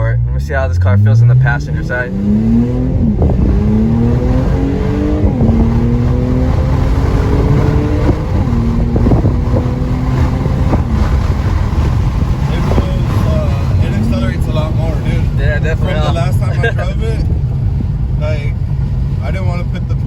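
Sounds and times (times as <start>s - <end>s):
car engine accelerating through gears: 0.0s - 20.0s.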